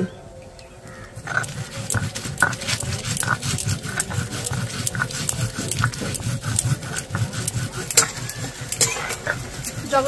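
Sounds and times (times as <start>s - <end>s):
stone grinding on stone: 1.2s - 10.0s.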